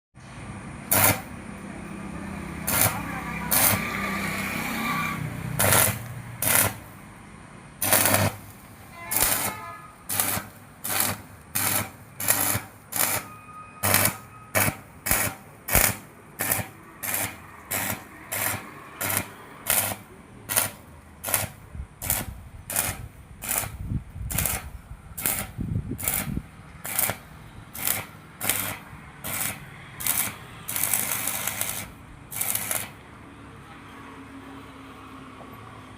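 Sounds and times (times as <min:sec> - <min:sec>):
welding arc crackling: 0:00.8 - 0:07.2, 0:07.8 - 0:33.0.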